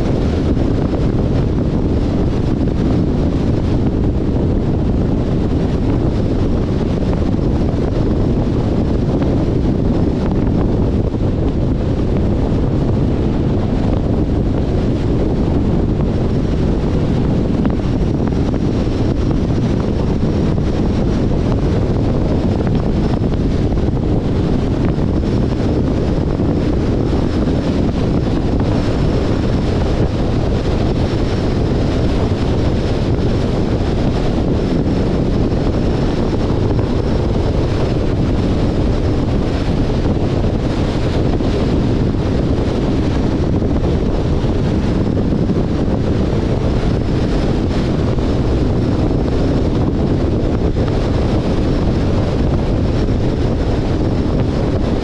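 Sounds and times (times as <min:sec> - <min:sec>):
road and tyre noise: 0:00.0 - 0:55.0
wind noise on microphone: 0:00.0 - 0:55.0.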